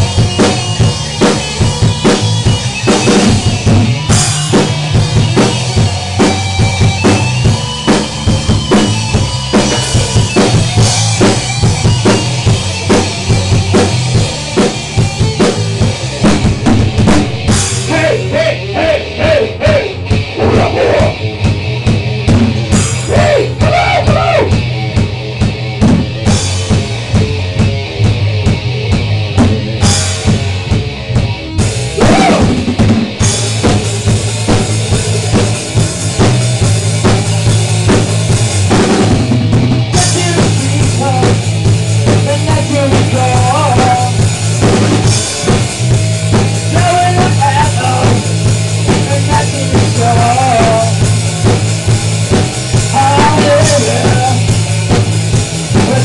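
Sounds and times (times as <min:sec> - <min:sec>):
bass drum and snare hits: 0:00.0 - 0:18.2, 0:19.2 - 0:56.0
bending guitar lead line: 0:00.0 - 0:56.0
rock band playing live: 0:00.0 - 0:56.0.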